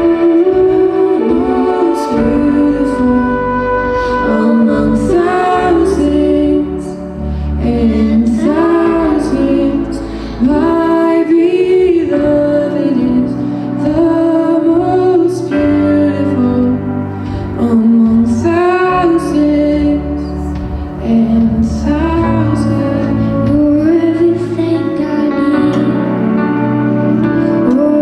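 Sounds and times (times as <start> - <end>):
instrumental accompaniment: 0.0 - 28.0
woman singing: 0.0 - 28.0.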